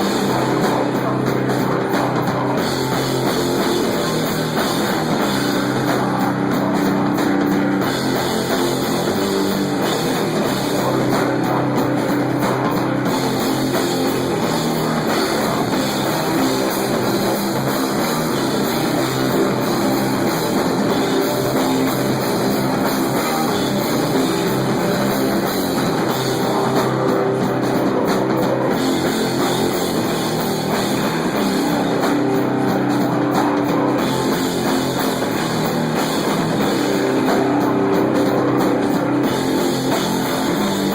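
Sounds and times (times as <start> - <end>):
bass guitar: 0.0 - 40.9
distorted electric guitar: 0.0 - 40.9
rock drum kit: 0.0 - 40.9.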